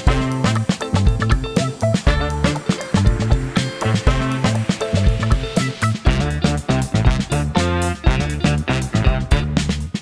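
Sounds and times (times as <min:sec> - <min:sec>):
plucked notes: 0:00.0 - 0:09.4
music with steady beat: 0:00.0 - 0:10.0.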